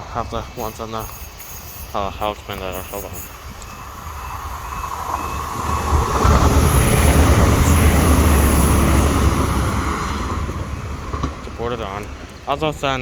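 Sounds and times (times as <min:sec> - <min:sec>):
high hiss: 0:00.0 - 0:13.0
train passing: 0:00.0 - 0:13.0.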